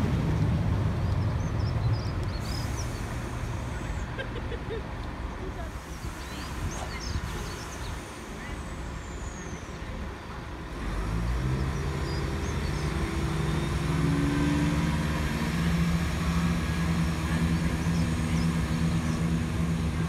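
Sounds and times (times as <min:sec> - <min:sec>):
train diesel engines: 0:00.0 - 0:20.0.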